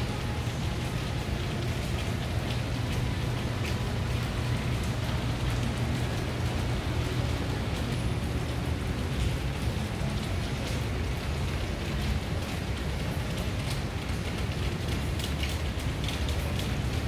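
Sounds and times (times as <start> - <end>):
rain drop ticks: 0.0 - 17.0
steady rain: 0.0 - 17.0.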